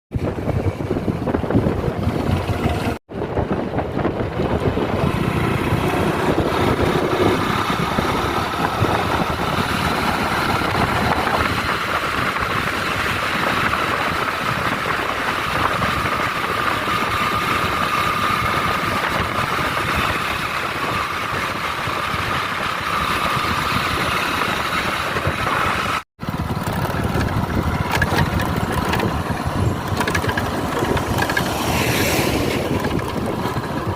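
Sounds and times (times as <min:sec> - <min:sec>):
road noise: 0:00.1 - 0:33.9
motorcycle engine droning: 0:00.2 - 0:33.9.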